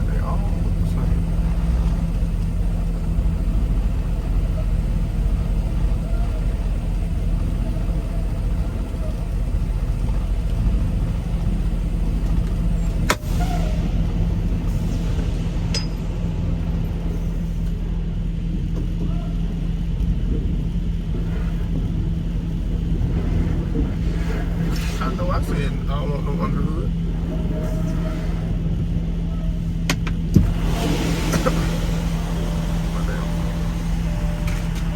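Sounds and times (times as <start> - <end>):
diesel truck engine droning: 0.0 - 34.9.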